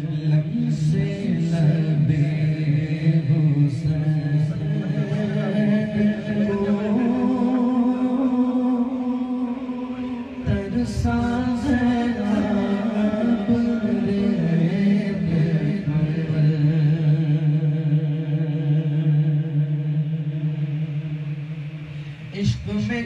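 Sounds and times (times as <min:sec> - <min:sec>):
man singing unaccompanied: 0:00.0 - 0:21.2, 0:22.3 - 0:23.0.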